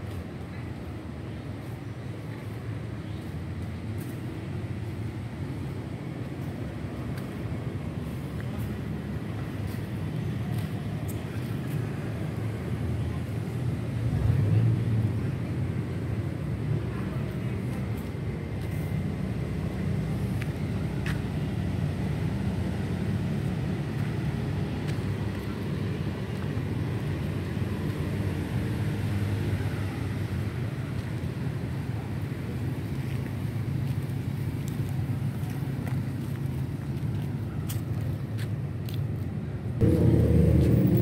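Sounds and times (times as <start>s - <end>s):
distant road traffic rumble: 0.0s - 41.0s.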